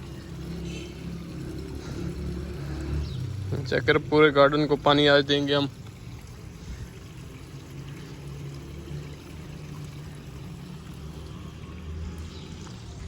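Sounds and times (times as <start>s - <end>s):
water pouring from a hose: 0.0s - 13.0s.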